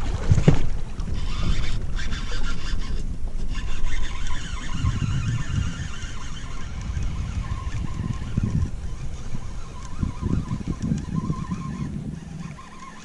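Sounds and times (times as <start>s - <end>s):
outboard motor humming: 0.0s - 13.0s
wind buffeting microphone: 0.0s - 13.0s.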